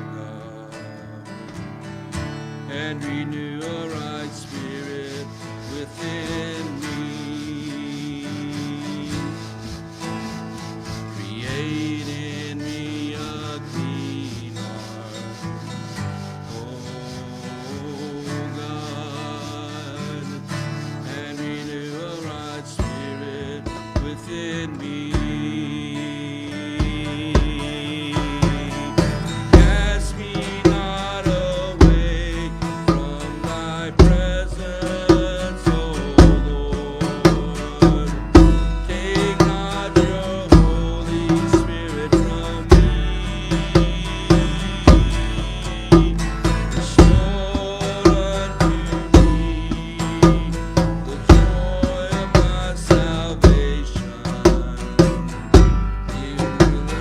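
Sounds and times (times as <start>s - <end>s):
acoustic guitar strumming: 0.0s - 57.0s
steady drum beat: 3.6s - 57.0s.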